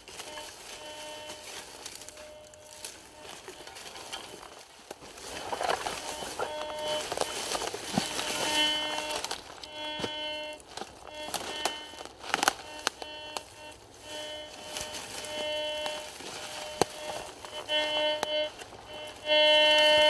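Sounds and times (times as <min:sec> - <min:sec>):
crunching in dry leaf litter: 0:00.0 - 0:20.0
metal detector buzzy tones: 0:00.0 - 0:20.0.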